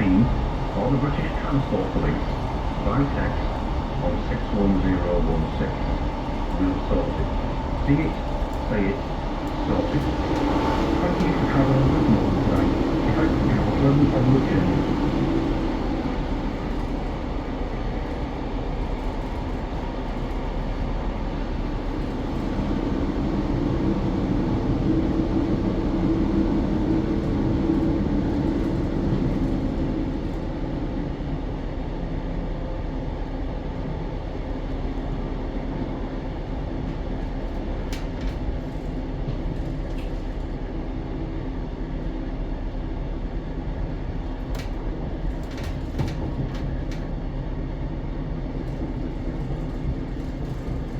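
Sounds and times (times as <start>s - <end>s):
train rumble inside carriage: 0.0s - 50.9s.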